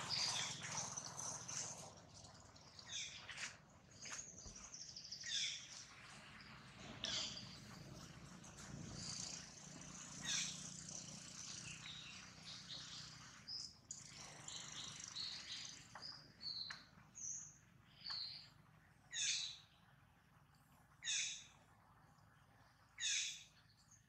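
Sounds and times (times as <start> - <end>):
birds chirping and calling: 0.0 - 18.5, 19.1 - 19.8, 21.0 - 21.6, 23.0 - 23.5.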